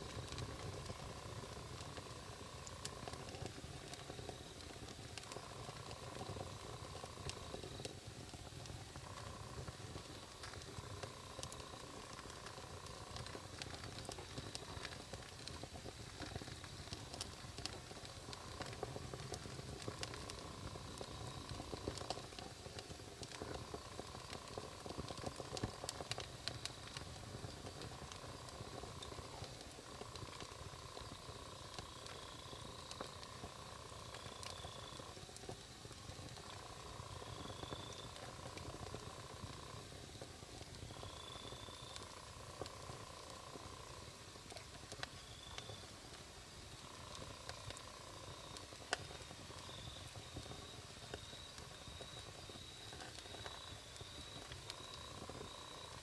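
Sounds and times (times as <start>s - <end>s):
campfire crackling and popping: 0.0s - 56.0s
low rumble of burning: 0.0s - 56.0s.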